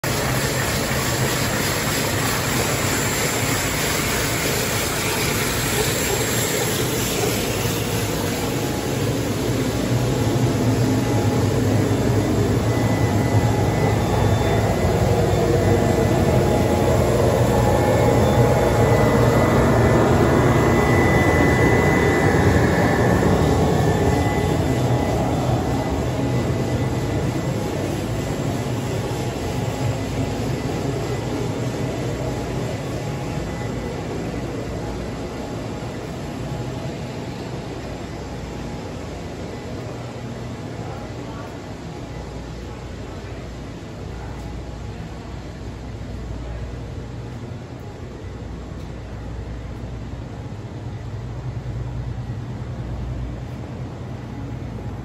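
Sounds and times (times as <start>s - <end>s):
floor grinder droning: 0.0s - 44.6s
low machine hum: 0.0s - 55.0s.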